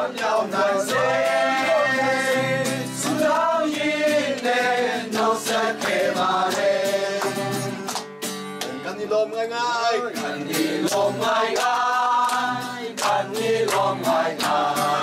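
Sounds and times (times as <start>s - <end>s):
group singing a carol: 0.0s - 7.8s, 9.8s - 15.0s.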